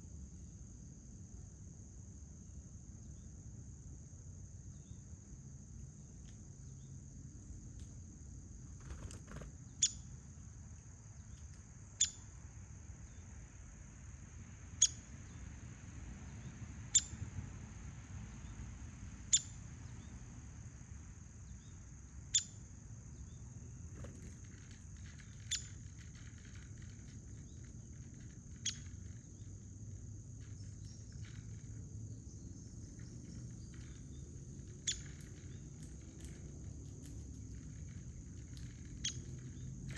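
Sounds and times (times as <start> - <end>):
crickets trilling: 0.0 - 39.9
low outdoor rumble: 0.0 - 39.9.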